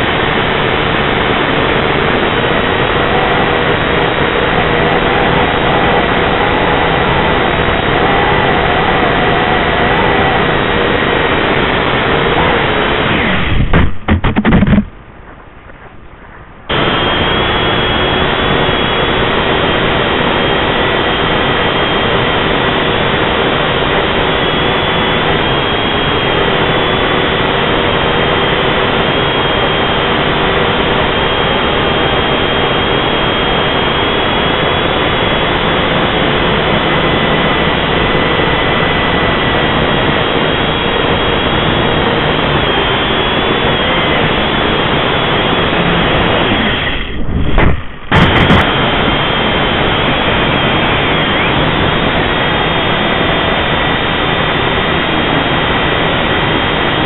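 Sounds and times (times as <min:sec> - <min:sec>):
drone propellers whirring: 0:00.0 - 0:57.0.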